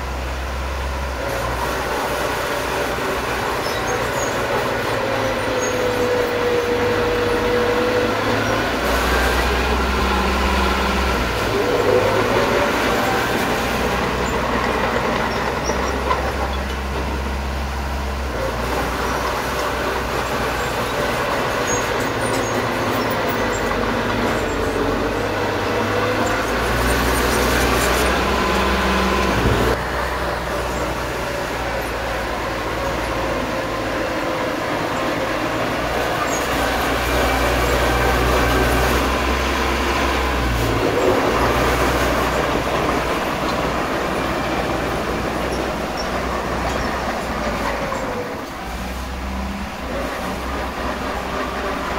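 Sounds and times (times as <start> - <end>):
bulldozer diesel engine rumbling: 0.0 - 51.9.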